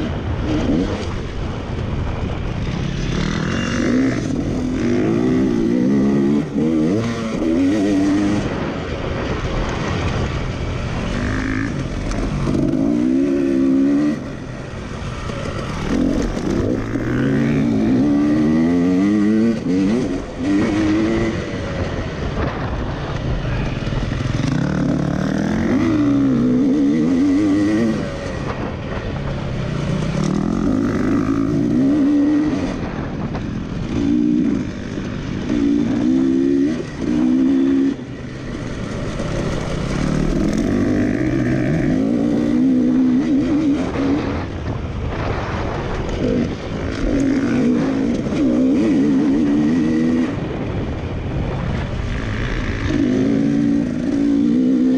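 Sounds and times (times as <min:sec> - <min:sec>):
wind noise: 0:00.0 - 0:54.9.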